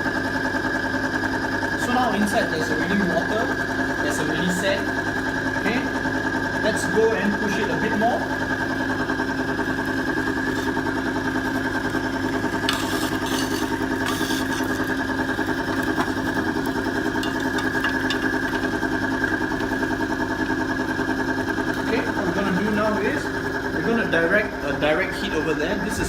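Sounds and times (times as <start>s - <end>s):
machine whine over pulsing hum: 0.0s - 26.0s.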